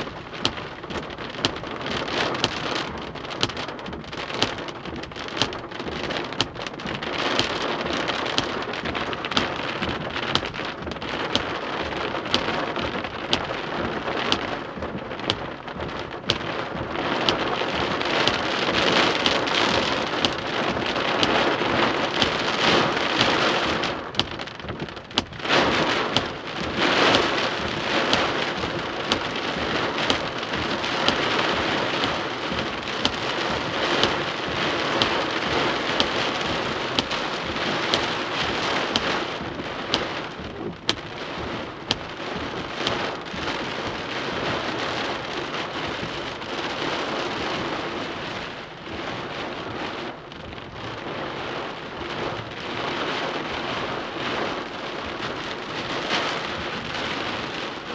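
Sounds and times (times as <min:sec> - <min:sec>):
heavy rain falling: 0:00.0 - 0:57.9
raindrops tapping nearby: 0:00.0 - 0:57.9.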